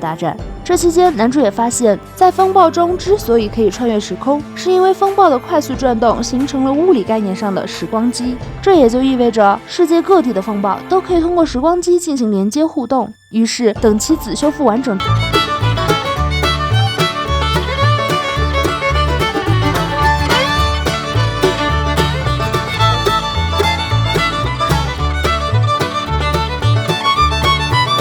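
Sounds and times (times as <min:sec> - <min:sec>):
fiddle-led bluegrass music: 0:00.1 - 0:12.0, 0:14.2 - 0:28.0.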